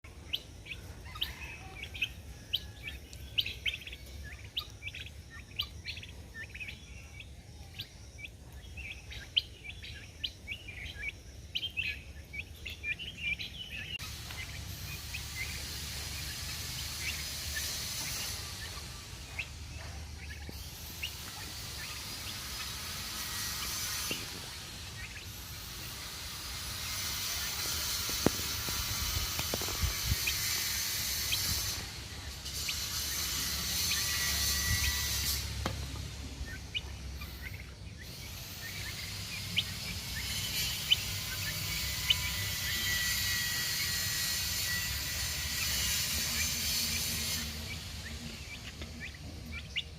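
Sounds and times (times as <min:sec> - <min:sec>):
birds chirping: 0:00.0 - 0:49.9
steady hiss: 0:00.1 - 0:49.9.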